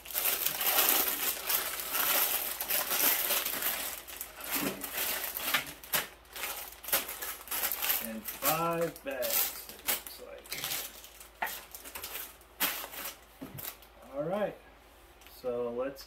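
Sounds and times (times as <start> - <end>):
plastic bags crinkling: 0.0 - 13.9.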